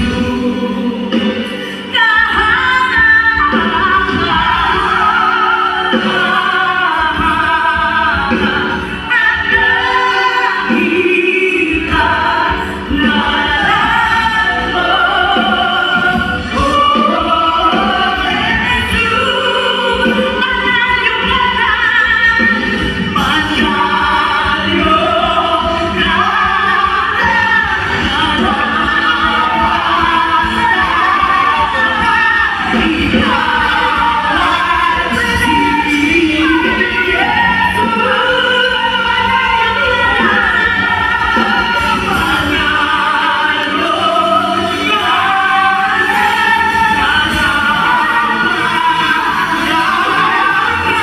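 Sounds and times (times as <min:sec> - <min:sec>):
music with sustained singing: 0:00.0 - 0:51.0.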